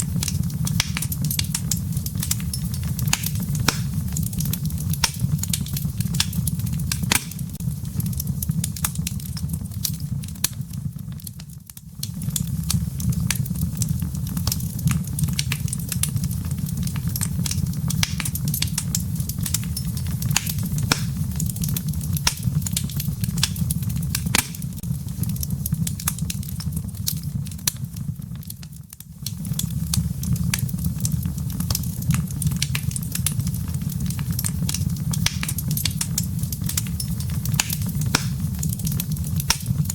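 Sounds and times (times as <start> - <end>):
fireplace crackling and popping: 0.0 - 39.9
low fire rumble: 0.0 - 39.9.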